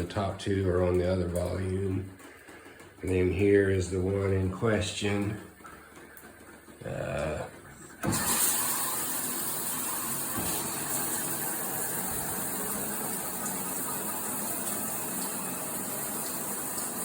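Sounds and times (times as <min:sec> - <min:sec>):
shower water spraying: 0:00.0 - 0:17.0.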